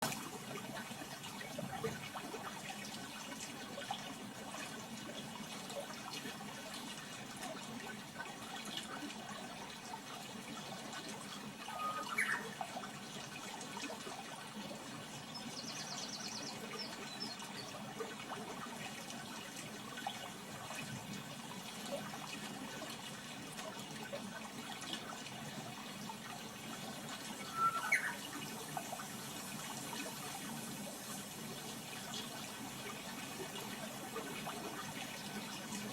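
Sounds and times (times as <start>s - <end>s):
running water: 0.0s - 35.9s.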